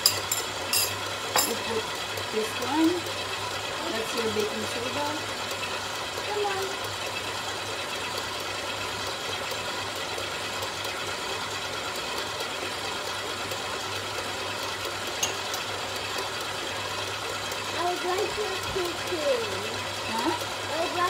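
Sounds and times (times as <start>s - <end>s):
stand mixer motor humming: 0.0s - 21.0s.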